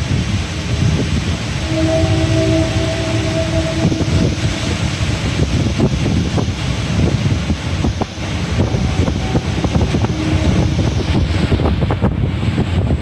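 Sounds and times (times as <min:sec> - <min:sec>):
rain shower: 0:00.0 - 0:13.0
wind buffeting microphone: 0:00.0 - 0:13.0.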